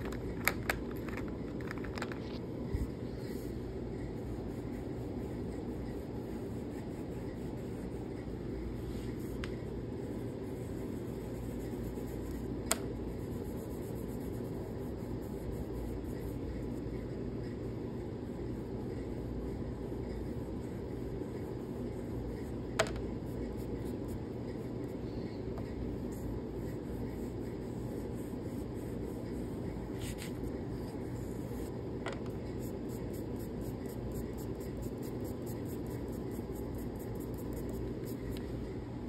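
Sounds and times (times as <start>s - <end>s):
low room hum: 0.0s - 39.0s
chalk pastel scratching on paper: 2.6s - 38.5s.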